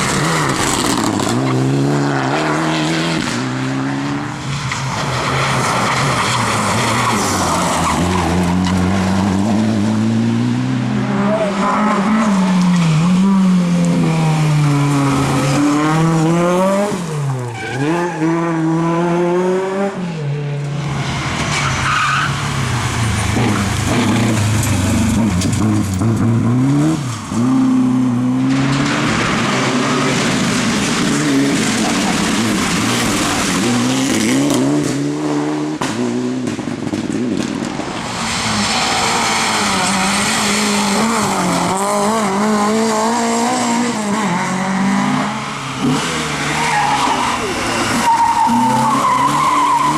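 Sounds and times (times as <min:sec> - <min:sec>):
tyres skidding and squealing: 0:00.0 - 0:19.1, 0:20.0 - 0:35.2, 0:37.7 - 0:49.9
rally car engines revving: 0:00.0 - 0:49.9.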